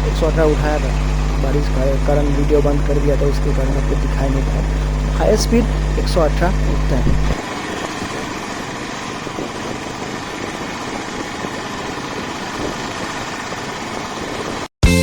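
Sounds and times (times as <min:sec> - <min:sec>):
wind noise: 0:00.0 - 0:14.7
motorcycle engine: 0:00.0 - 0:15.0.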